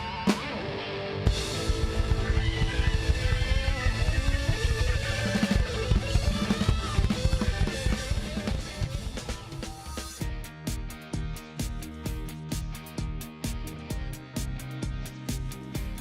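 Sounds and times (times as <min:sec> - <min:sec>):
rock band playing: 0:00.0 - 0:16.0
fast kick drum beat: 0:01.3 - 0:16.0.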